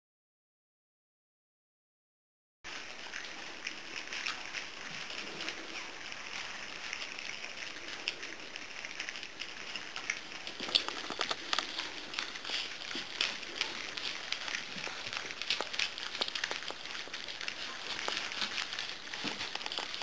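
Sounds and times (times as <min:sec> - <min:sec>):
puppies eating from metal pans: 0:02.7 - 0:20.0.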